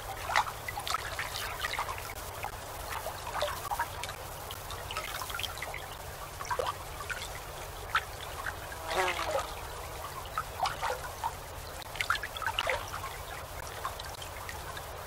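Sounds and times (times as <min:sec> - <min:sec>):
low steady hum: 0:00.0 - 0:15.0
small water splashes: 0:00.0 - 0:15.0
water lapping and trickling: 0:00.0 - 0:15.0.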